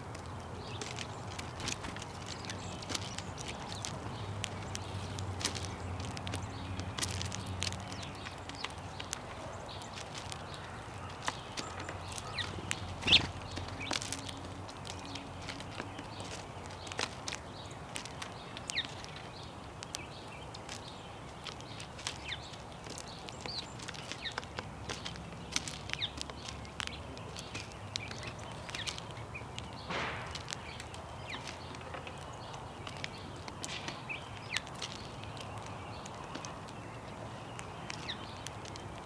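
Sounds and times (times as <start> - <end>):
beaks pecking at seed: 0.0 - 39.0
rustle: 0.0 - 39.0
small birds chirping: 0.0 - 39.0.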